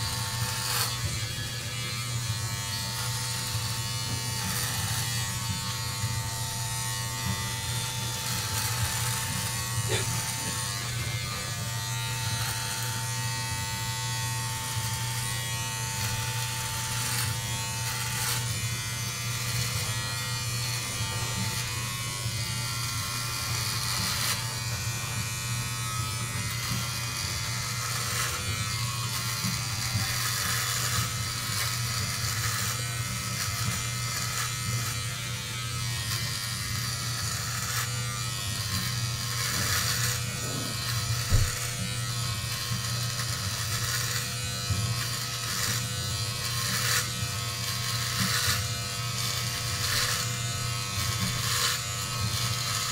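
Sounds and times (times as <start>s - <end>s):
electric trimmer buzzing: 0.0s - 52.9s.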